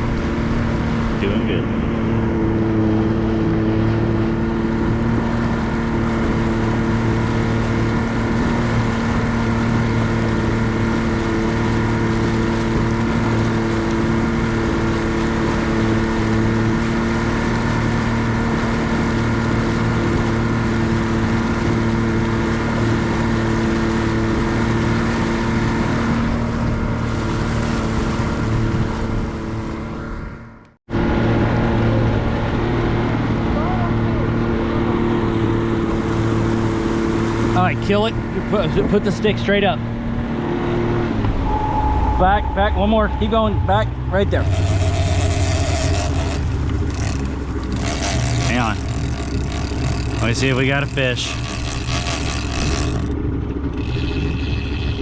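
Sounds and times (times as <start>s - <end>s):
outboard motor running: 0.0s - 41.8s, 43.6s - 55.0s.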